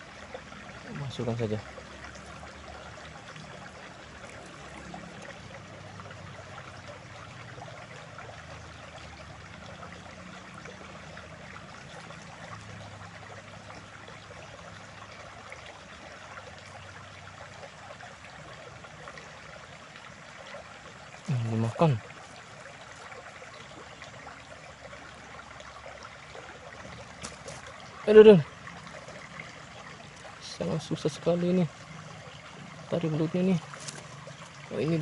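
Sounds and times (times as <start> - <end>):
stream running water: 0.0 - 35.0.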